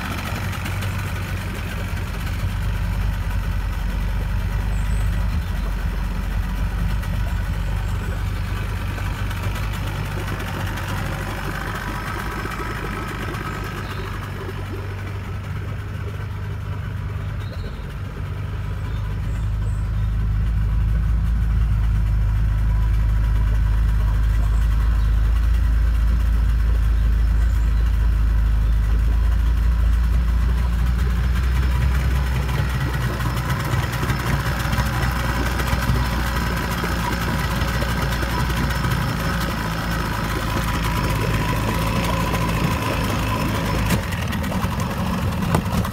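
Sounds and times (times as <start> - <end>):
churning water: 0.0 - 45.9
outboard motor idling: 0.0 - 45.9.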